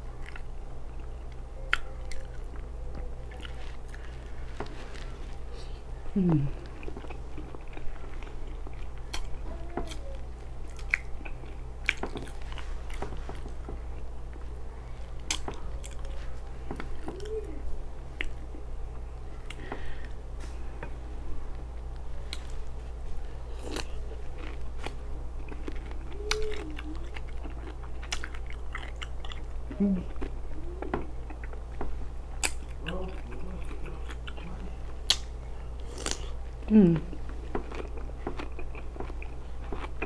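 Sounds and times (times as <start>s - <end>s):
chewing and biting food: 0.0s - 5.6s, 6.4s - 19.8s, 22.3s - 40.0s
steady low hum: 0.0s - 40.0s.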